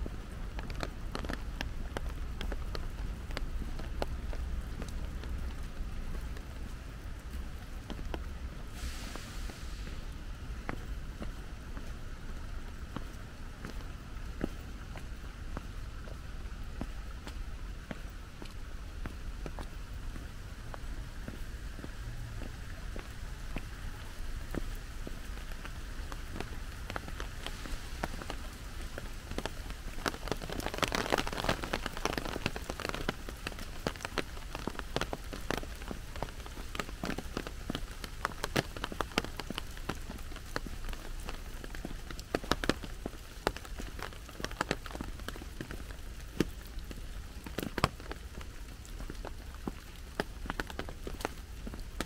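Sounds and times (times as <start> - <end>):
raindrops tapping: 0.0 - 8.8, 9.8 - 52.0
low rain rumble: 0.0 - 52.0.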